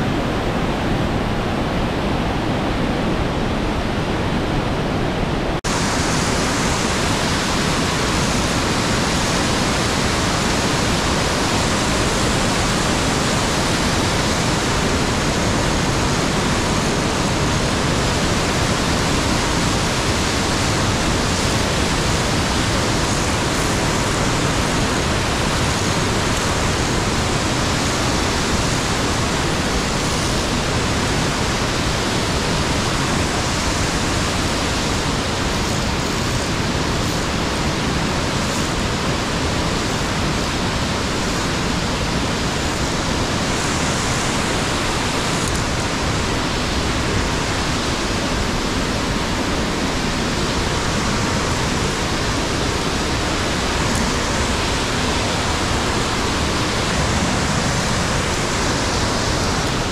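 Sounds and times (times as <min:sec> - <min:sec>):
water rushing over boulders: 0:00.0 - 0:59.9.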